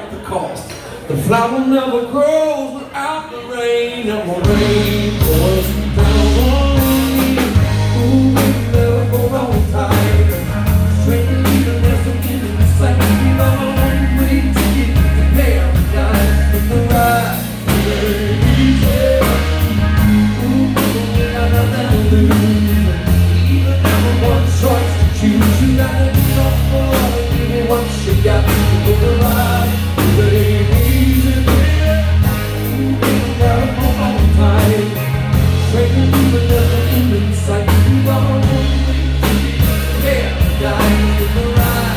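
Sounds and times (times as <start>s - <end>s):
person singing: 1.7s - 41.9s
live rock band playing: 4.0s - 41.9s
heavy bass: 4.4s - 41.9s
steady drum beat: 4.5s - 41.9s.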